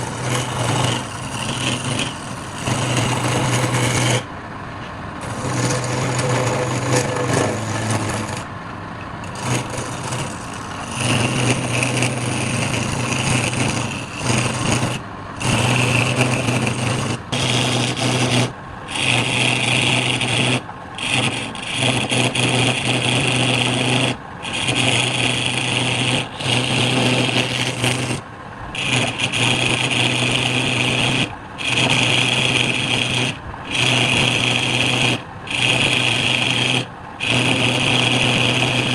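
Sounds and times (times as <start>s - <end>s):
rasping rub of spinning wood: 0.0s - 4.3s, 5.2s - 8.5s, 9.2s - 38.9s
wood lathe humming: 0.0s - 4.4s, 5.2s - 8.5s, 9.2s - 38.9s.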